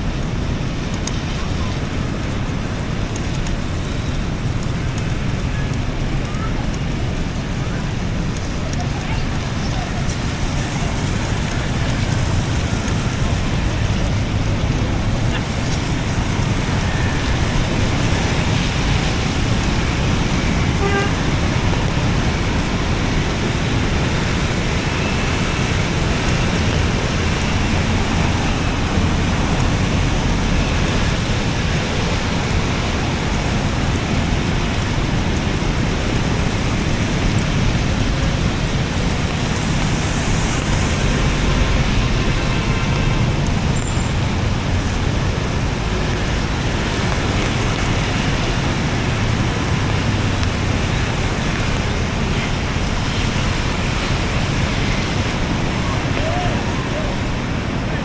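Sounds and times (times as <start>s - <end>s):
road traffic din: 0.0s - 58.0s.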